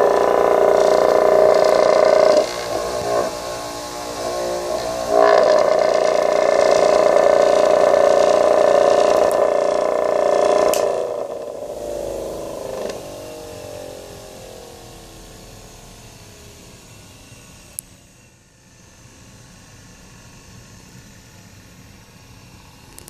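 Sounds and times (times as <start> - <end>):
disc sander motor whine: 0.0 - 18.5.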